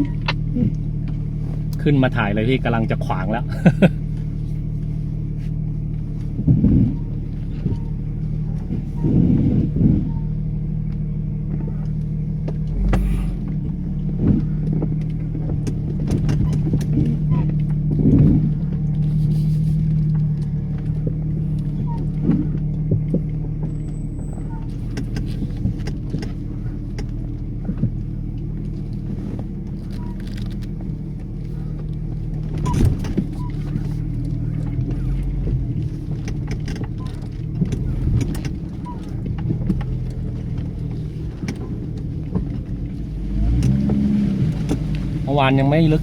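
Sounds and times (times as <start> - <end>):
off-road vehicle engine running: 0.0 - 46.0.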